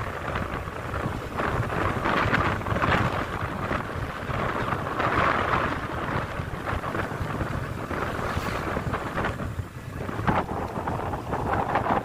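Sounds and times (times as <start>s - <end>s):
motorcycle low rumble: 0.0s - 12.0s
wind buffeting microphone: 0.0s - 12.0s.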